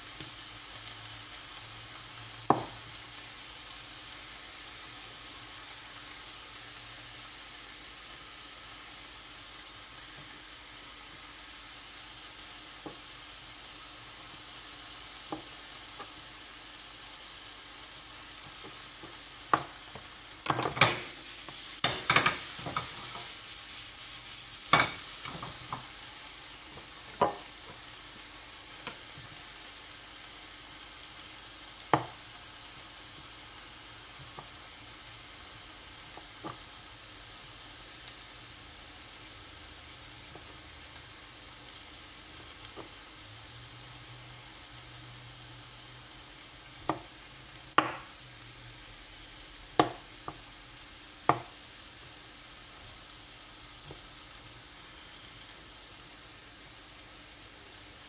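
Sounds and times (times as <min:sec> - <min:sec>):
chicken sizzling in frying pan: 0:00.0 - 0:58.0.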